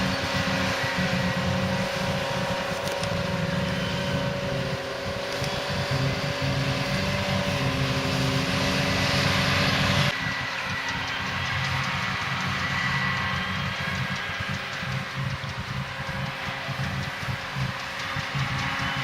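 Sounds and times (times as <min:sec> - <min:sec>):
diesel engines under load: 0:00.0 - 0:19.0
machinery whine: 0:00.0 - 0:19.0.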